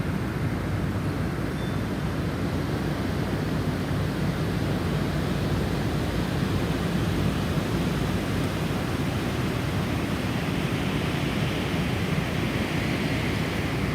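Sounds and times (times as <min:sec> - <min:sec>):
snowstorm wind blowing: 0:00.0 - 0:13.9.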